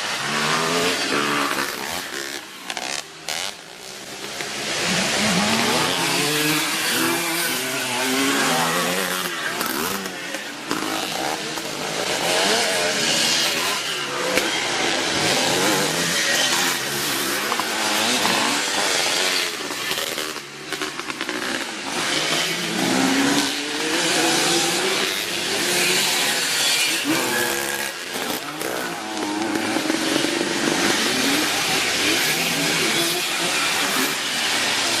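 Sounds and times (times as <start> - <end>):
motocross motorcycles racing: 0.0 - 35.0.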